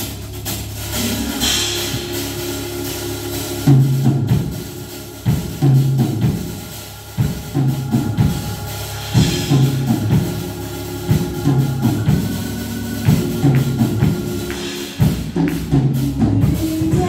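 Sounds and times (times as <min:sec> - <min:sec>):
church band instrumental groove: 0:00.0 - 0:17.0
heavy drum hit: 0:00.0 - 0:17.0.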